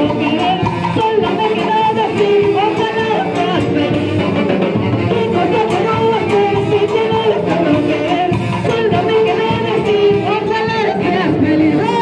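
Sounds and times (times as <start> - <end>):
latin dance band playing: 0.0 - 12.0
person singing melody: 0.0 - 12.0.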